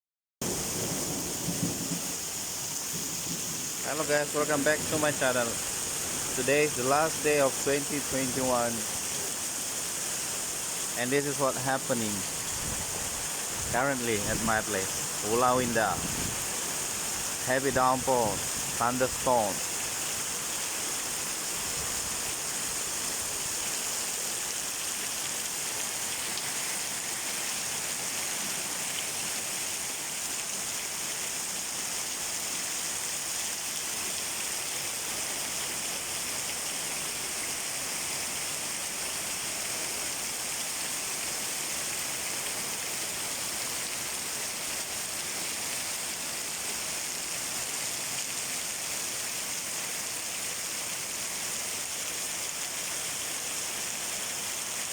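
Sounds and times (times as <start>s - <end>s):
heavy rain: 0.4s - 54.9s.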